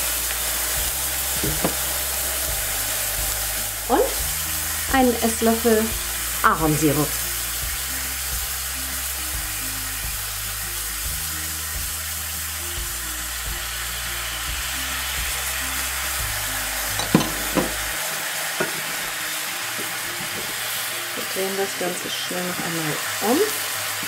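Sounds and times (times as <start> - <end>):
scallops sizzling in a pan: 0.0 - 24.0.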